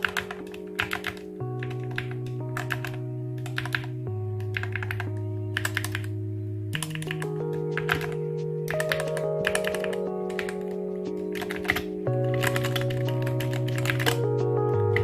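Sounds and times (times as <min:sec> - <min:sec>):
mechanical keyboard typing: 0:00.0 - 0:06.1, 0:06.8 - 0:15.0
background music with chords: 0:00.0 - 0:15.0.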